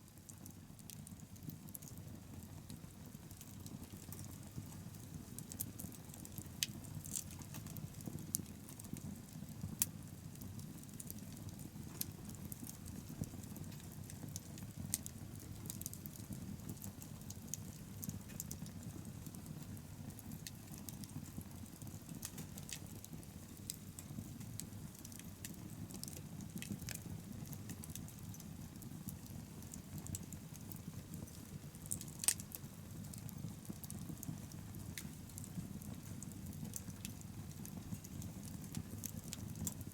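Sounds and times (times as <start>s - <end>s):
low fire rumble: 0.0s - 39.9s
bonfire crackling and popping: 0.1s - 39.9s.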